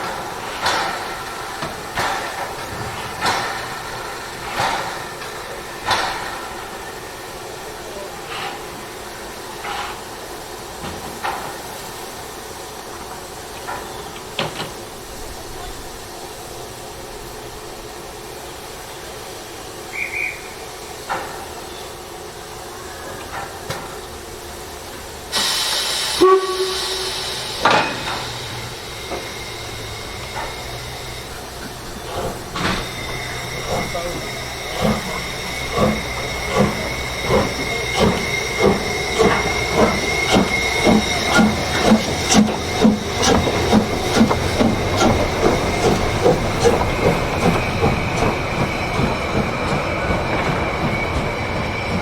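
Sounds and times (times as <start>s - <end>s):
loud rush of escaping steam: 0.0s - 52.0s
steam locomotive hissing: 0.0s - 52.0s.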